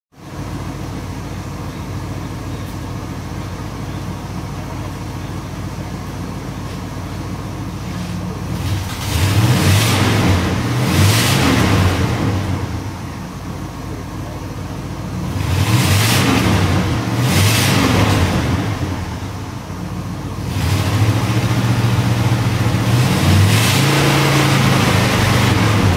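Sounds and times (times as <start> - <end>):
car engine idling and revving: 0.2 - 25.9.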